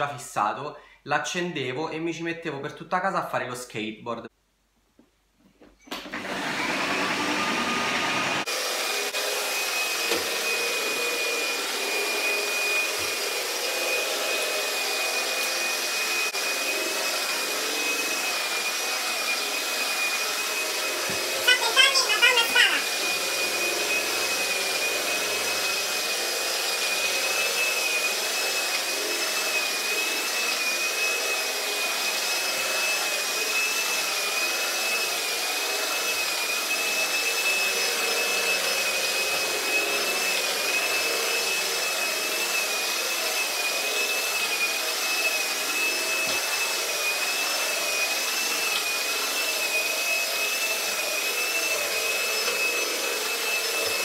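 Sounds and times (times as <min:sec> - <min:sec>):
floor polisher motor whining: 0:05.9 - 0:54.0.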